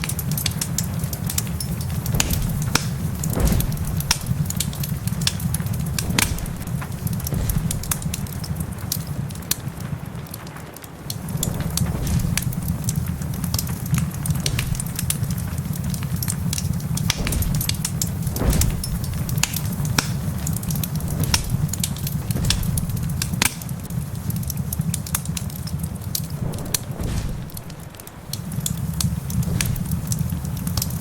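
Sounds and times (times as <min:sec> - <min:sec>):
low fire rumble: 0:00.0 - 0:31.0
wood fire crackling: 0:00.0 - 0:31.0.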